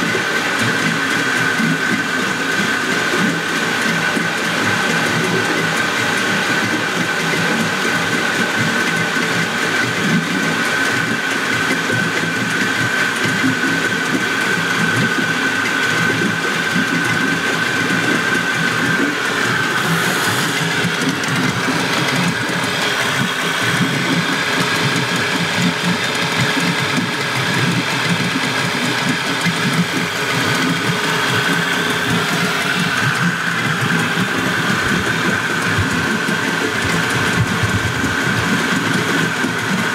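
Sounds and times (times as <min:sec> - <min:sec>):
outboard engine running with whine: 0:00.0 - 0:39.9.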